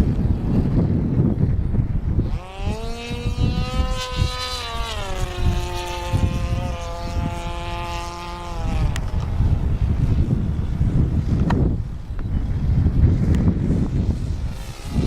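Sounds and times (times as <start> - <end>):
model plane engine flying past: 0.0 - 15.0.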